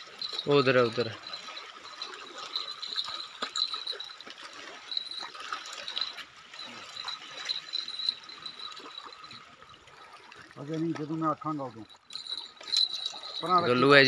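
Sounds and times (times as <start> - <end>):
small waves lapping on rocks: 0.0 - 14.0.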